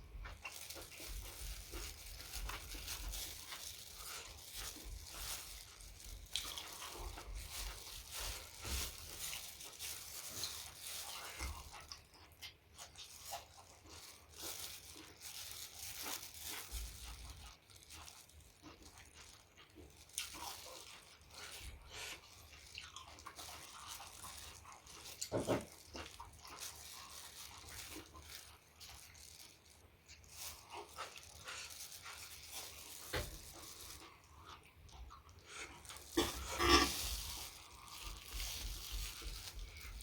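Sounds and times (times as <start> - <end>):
person crunching and chewing: 0.0 - 40.0.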